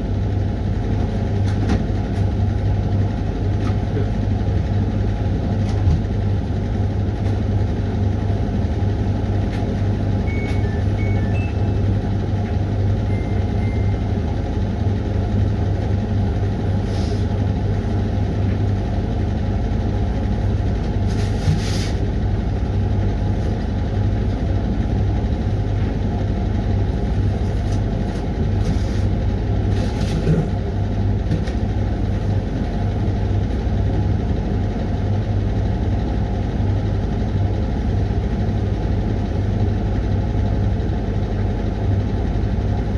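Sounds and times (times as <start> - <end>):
washing machine hum: 0.0 - 42.9.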